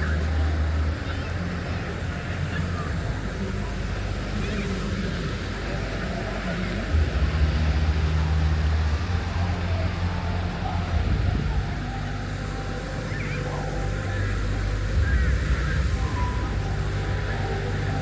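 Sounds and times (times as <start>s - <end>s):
faint voices: 0.0s - 18.0s
motor engine humming: 0.0s - 18.0s.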